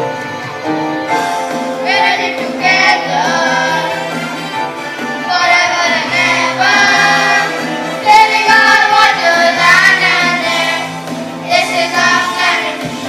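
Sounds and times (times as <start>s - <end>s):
backing track music: 0.0s - 13.0s
children singing: 1.8s - 4.5s, 5.1s - 13.0s.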